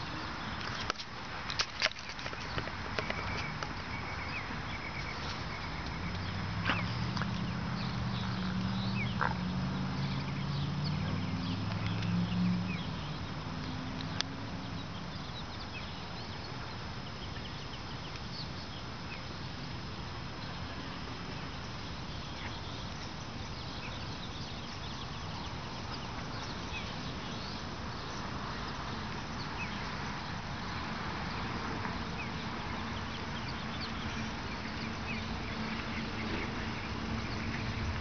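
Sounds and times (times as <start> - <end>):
ambient hiss: 2.2 - 38.0.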